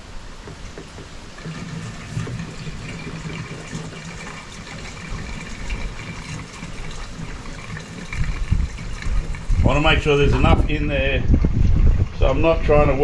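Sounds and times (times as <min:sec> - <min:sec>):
fuel pouring into tank: 0:00.0 - 0:13.0.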